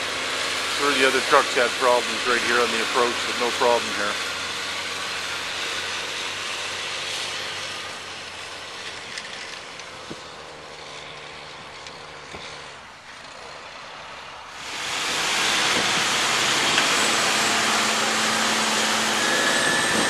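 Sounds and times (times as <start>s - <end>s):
truck diesel engine pulling: 0.0s - 20.0s.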